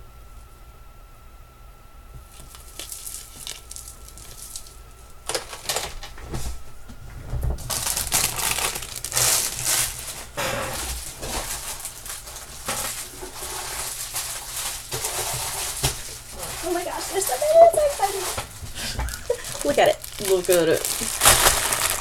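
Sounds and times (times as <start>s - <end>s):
packaging crinkling and rustling: 2.2s - 22.0s.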